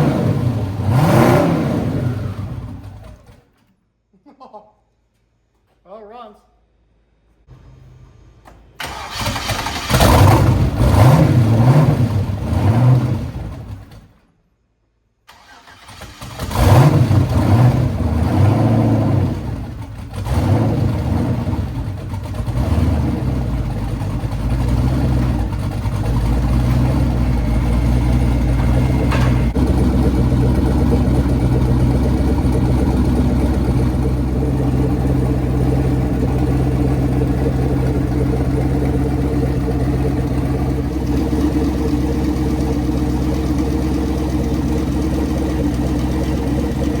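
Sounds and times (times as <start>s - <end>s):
loud car engine revving and idling: 0.0s - 3.3s, 9.7s - 14.0s, 16.2s - 47.0s.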